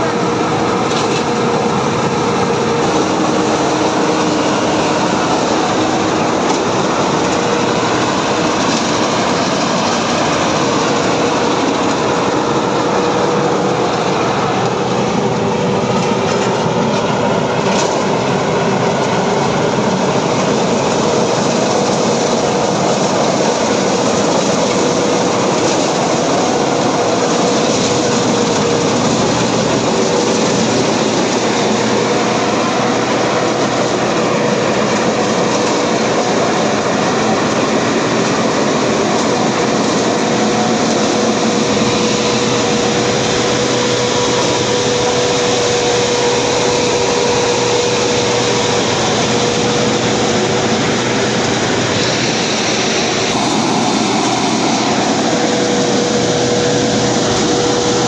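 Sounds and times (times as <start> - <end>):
combine harvester droning: 0.0 - 58.0.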